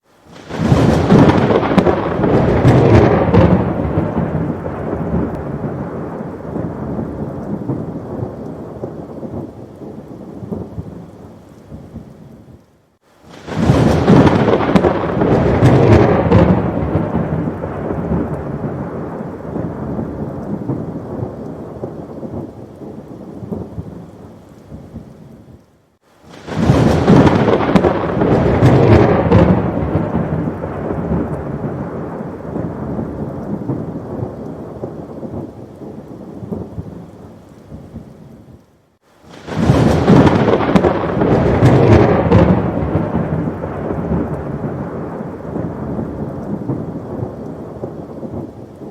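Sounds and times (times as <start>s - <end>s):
heavy rain: 0.0s - 48.9s
rolling thunder: 0.3s - 11.1s, 13.3s - 24.1s, 26.3s - 37.1s, 39.2s - 48.9s.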